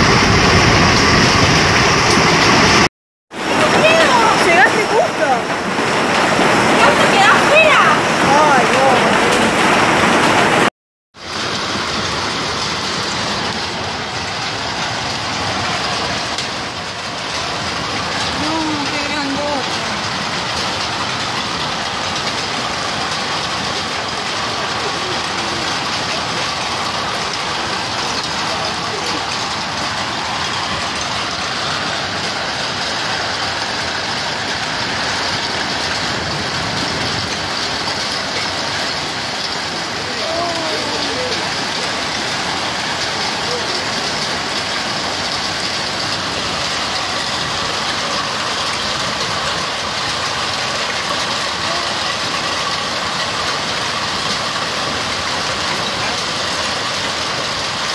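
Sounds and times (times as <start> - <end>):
hail falling on lawn: 0.0 - 57.9.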